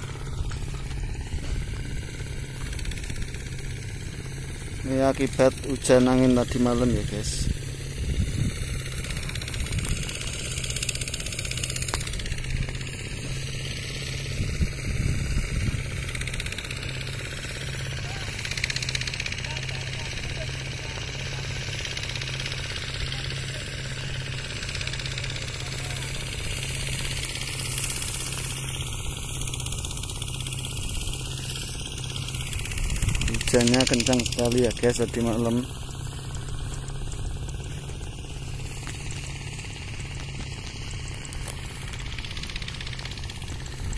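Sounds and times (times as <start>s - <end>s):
engine idling: 0.0s - 43.9s
low rumbling: 0.0s - 43.9s.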